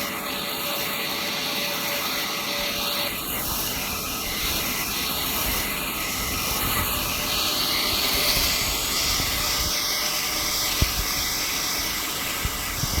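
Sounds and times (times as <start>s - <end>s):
band saw cutting log: 0.0s - 13.0s.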